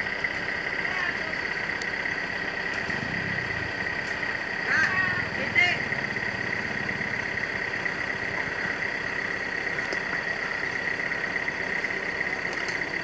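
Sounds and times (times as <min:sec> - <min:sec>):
high whine: 0:00.0 - 0:13.0
truck engine running: 0:00.0 - 0:13.0.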